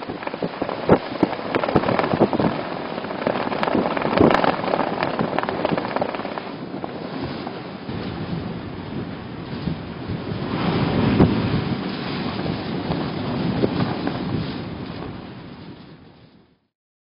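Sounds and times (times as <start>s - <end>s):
heavy rain: 0.0s - 16.6s
wind: 0.0s - 16.7s.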